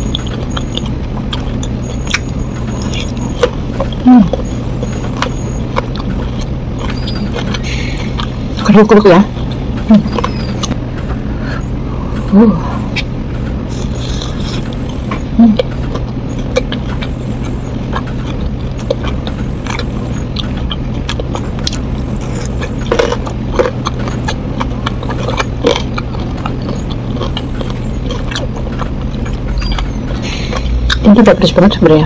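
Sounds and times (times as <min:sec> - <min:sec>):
crunchy chewing: 0:00.0 - 0:31.6
steady low hum: 0:00.0 - 0:32.0.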